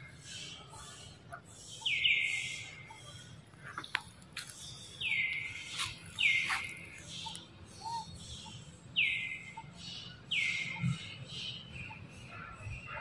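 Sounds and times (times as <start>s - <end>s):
bird calling: 0.3s - 13.0s.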